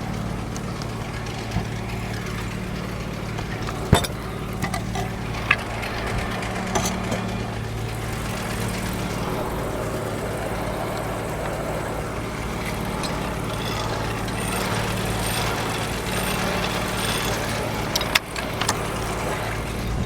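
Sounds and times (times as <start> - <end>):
sawmill engine running: 0.0 - 20.0.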